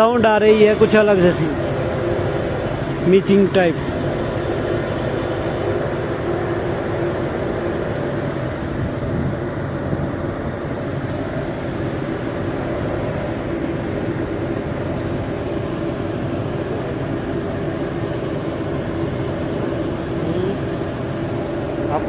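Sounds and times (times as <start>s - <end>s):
generator engine misfiring: 0.0s - 22.0s.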